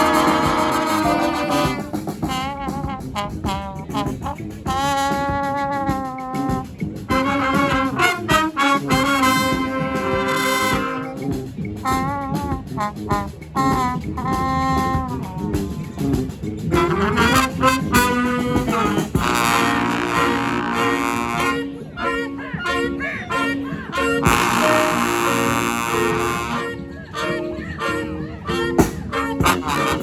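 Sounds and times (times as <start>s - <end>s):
brass band playing: 0.0s - 30.0s
percussion: 0.0s - 30.0s.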